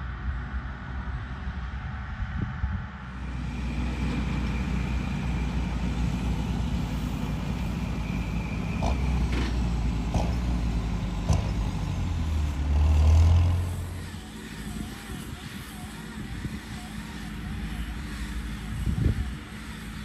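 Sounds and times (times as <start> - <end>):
tractor engine running: 2.9 - 20.0.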